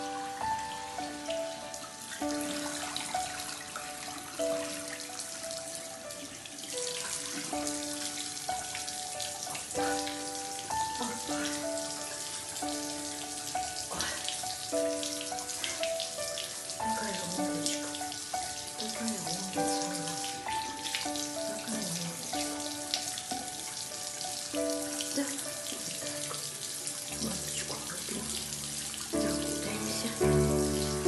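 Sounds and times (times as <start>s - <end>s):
background music of held notes: 0.0s - 27.6s, 28.4s - 31.0s
water running from tap into sink: 0.0s - 31.0s.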